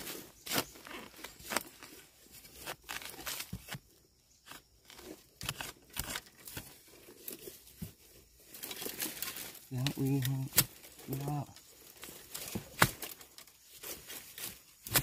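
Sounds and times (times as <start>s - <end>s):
leaf litter crunching and rustling: 0.0s - 3.7s, 5.8s - 15.0s.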